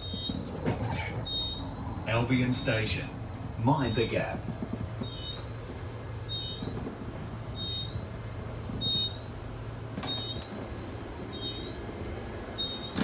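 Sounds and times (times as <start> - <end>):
train door beeper: 0.0 - 1.9, 3.5 - 13.0
low carriage hum: 0.0 - 13.0.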